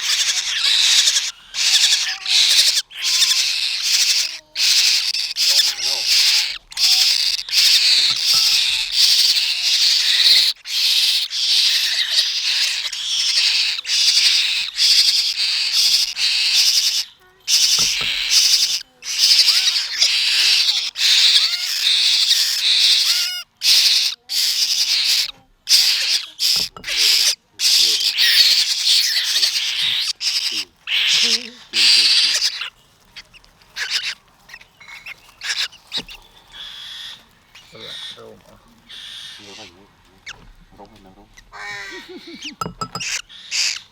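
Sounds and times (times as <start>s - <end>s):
bird chicks begging calls: 0.0s - 43.9s.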